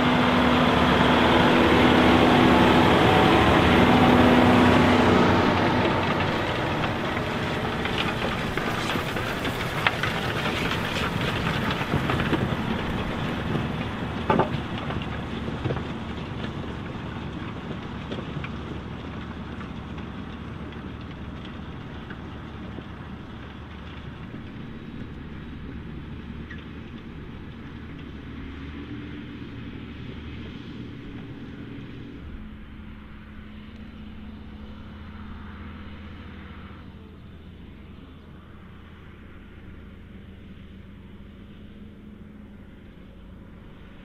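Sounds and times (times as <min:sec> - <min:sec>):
tractor diesel engine under load: 0:00.0 - 0:44.0.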